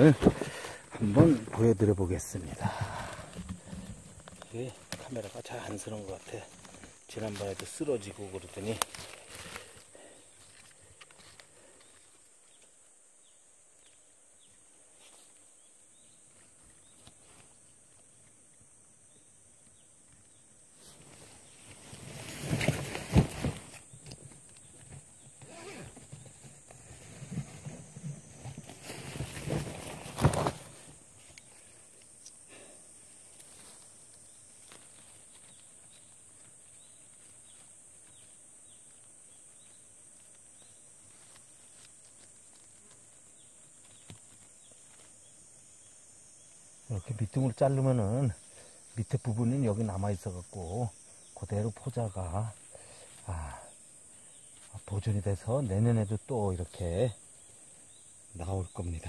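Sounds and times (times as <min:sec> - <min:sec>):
faint high hiss: 0:00.0 - 0:59.0
insects droning: 0:00.0 - 0:59.0.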